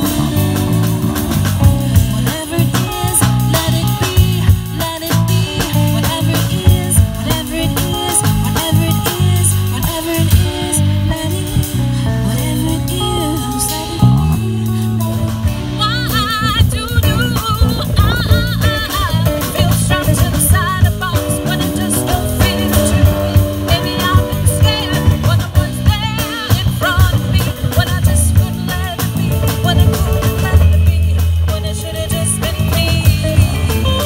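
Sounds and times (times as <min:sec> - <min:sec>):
drum kit: 0:00.0 - 0:34.0
electric bass: 0:00.0 - 0:34.0
electric guitar: 0:00.0 - 0:34.0
woman singing with vibrato: 0:00.0 - 0:34.0.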